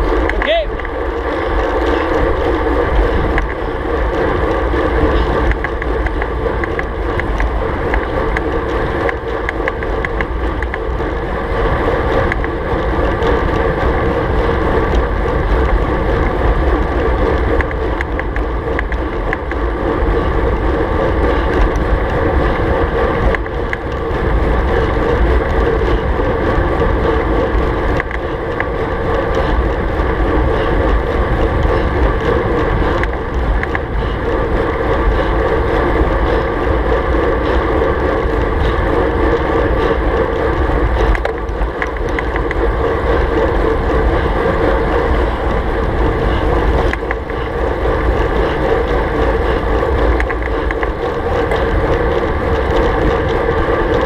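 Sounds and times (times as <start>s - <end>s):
bicycle tyre and road noise: 0.0s - 54.0s
wind buffeting microphone: 0.0s - 54.0s.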